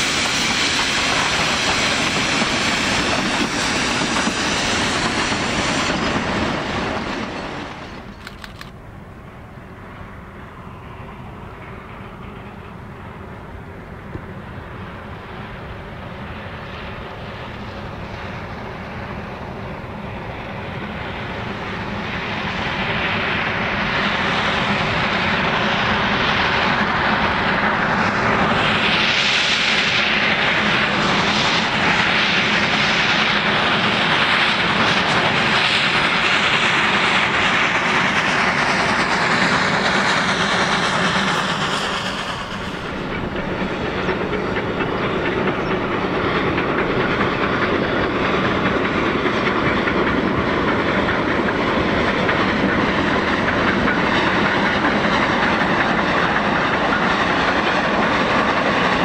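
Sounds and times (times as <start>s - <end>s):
steam locomotive exhaust: 0.0s - 59.0s.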